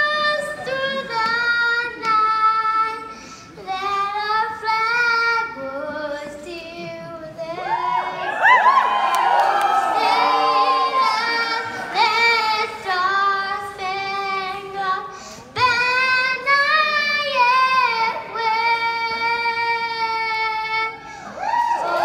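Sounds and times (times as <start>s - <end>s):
boy singing into a microphone: 0.0s - 7.9s, 10.0s - 21.2s.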